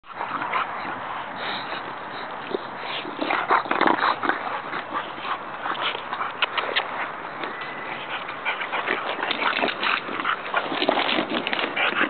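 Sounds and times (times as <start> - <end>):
puppy sounds: 0.1 - 12.0.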